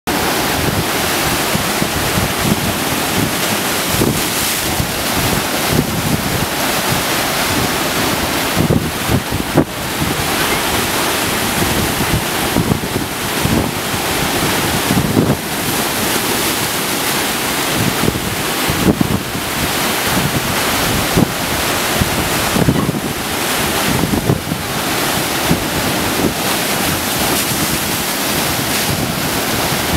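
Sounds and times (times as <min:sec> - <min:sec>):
ocean waves breaking against rocks: 0:00.1 - 0:29.9
wind buffeting microphone: 0:00.1 - 0:29.9.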